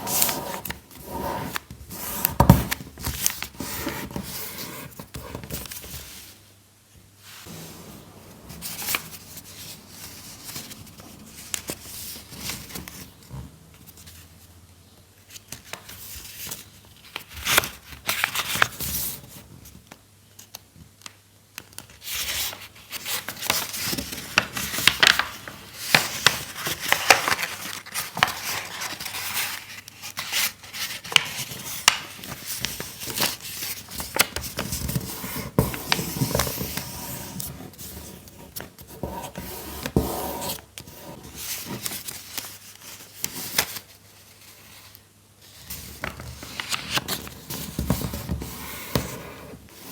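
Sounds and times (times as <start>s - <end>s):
paper rustling and crinkling: 0.0s - 6.4s, 8.3s - 14.2s, 15.2s - 49.9s.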